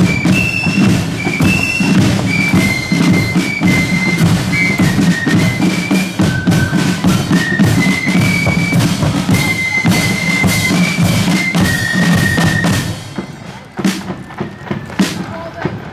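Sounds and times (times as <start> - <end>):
flute melody: 0.0 - 15.9
snare drum beats: 0.0 - 15.9.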